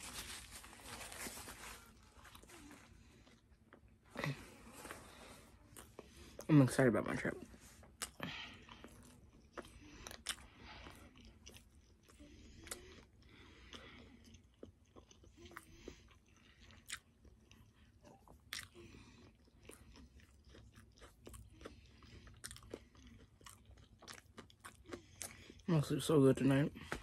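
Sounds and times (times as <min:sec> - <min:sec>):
chewing crispy food: 0:00.0 - 0:27.0.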